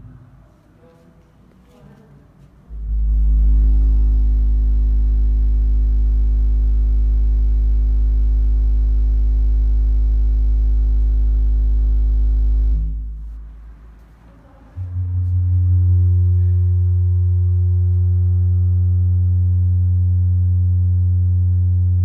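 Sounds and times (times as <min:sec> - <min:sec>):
deep electronic hum: 0:02.7 - 0:22.0.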